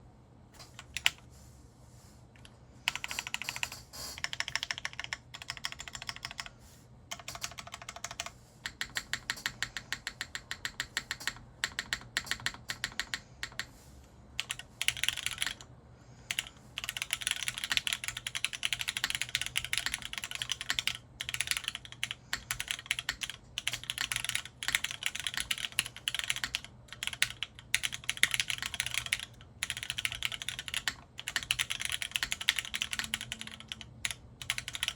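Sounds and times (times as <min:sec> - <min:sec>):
mechanical keyboard typing: 0:00.6 - 0:01.2, 0:02.4 - 0:06.5, 0:07.1 - 0:13.7, 0:14.4 - 0:15.7, 0:16.3 - 0:34.9.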